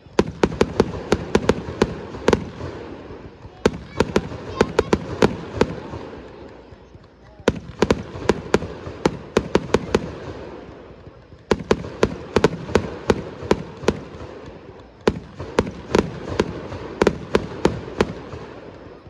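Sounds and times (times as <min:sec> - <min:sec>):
fireworks bursting with echoing bangs: 0:00.0 - 0:19.0.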